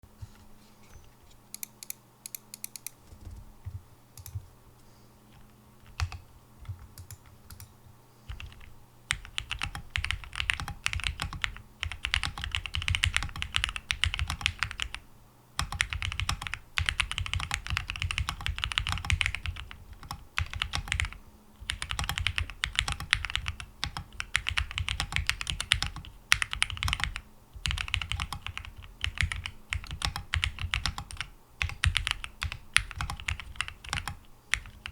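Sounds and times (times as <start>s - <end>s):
typing on mechanical keyboard: 4.2s - 4.4s, 5.8s - 7.7s, 8.3s - 15.0s, 15.6s - 34.9s.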